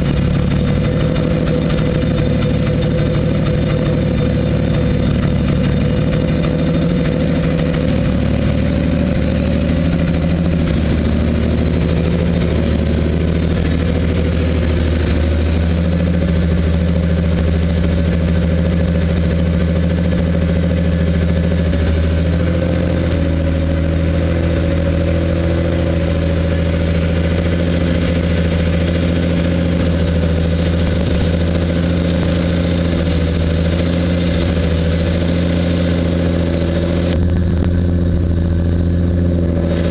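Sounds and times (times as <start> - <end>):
race car engine idling: 0.0 - 39.9.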